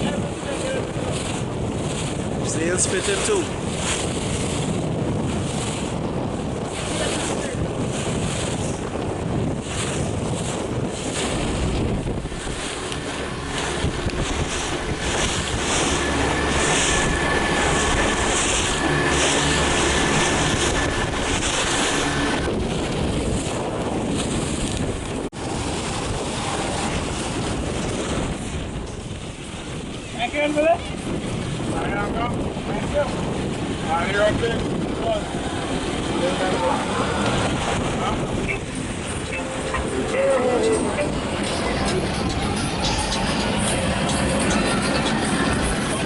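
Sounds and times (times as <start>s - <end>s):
water rushing past hull: 0.0s - 46.0s
wind buffeting microphone: 0.0s - 46.0s.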